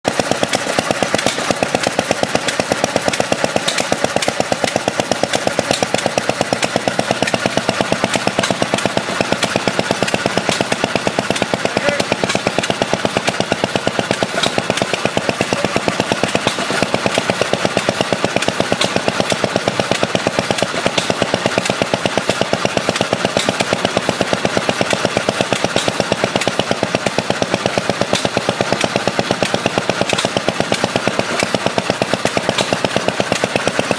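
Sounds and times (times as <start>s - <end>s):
pumping engine rhythmic clatter: 0.0s - 33.9s.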